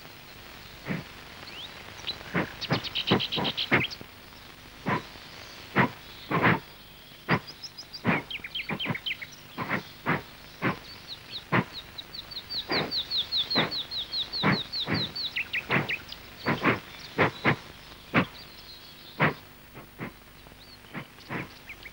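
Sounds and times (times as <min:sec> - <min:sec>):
small bird chirping: 0:00.6 - 0:21.9.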